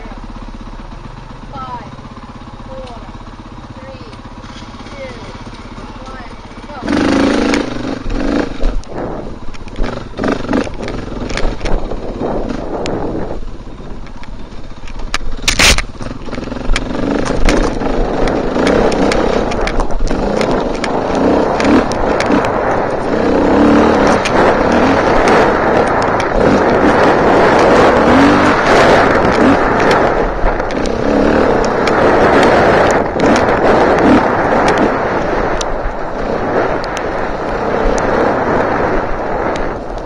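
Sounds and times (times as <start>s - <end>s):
bike knocking and scraping: 0.0s - 40.0s
dirt bike engine revving: 0.0s - 40.0s.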